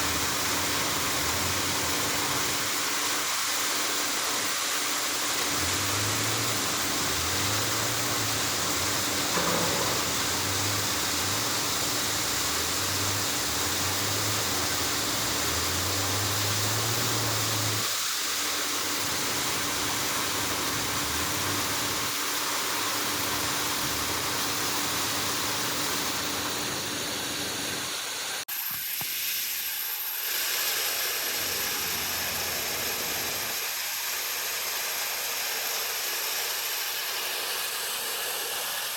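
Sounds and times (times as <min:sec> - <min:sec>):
heavy machinery hissing and humming: 0:00.0 - 0:38.9.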